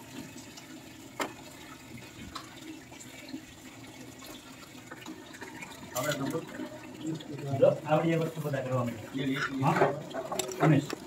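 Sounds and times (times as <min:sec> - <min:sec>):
faint watery noise: 0:00.0 - 0:11.0.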